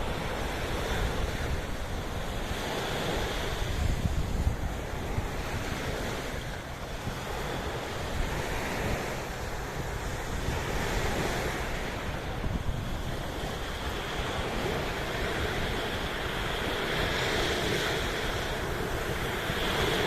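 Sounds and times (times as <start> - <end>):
sea waves washing: 0.0 - 20.0
wind on microphone: 0.0 - 20.0.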